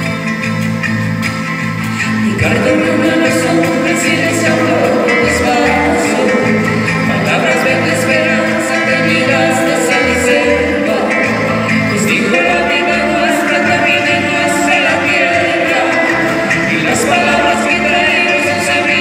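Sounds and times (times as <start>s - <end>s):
instrumental accompaniment with bass: 0.0s - 19.0s
person singing: 1.8s - 19.0s.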